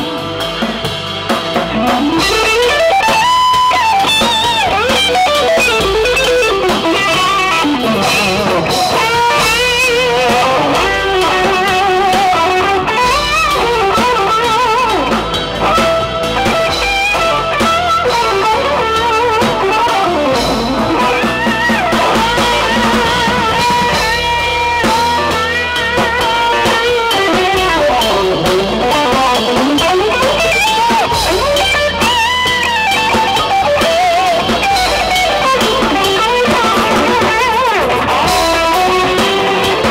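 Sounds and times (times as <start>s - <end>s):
drums and cymbals: 0.0s - 39.9s
lead electric guitar: 0.0s - 39.9s.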